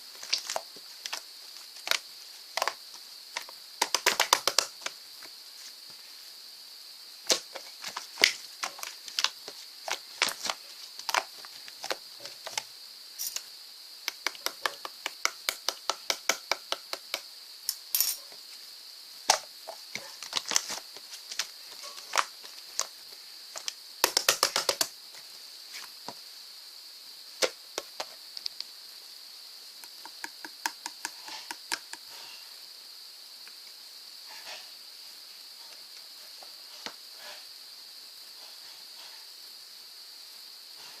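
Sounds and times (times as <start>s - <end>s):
steady high hiss: 0.0s - 41.0s.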